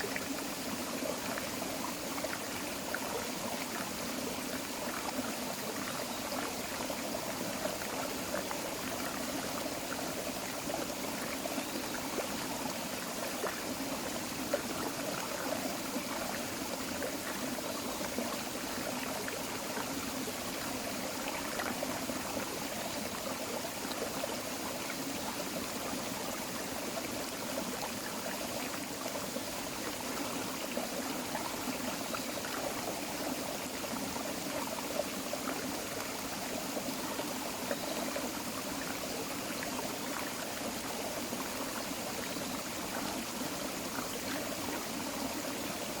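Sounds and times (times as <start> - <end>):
creek water trickling over stones: 0.0 - 46.0.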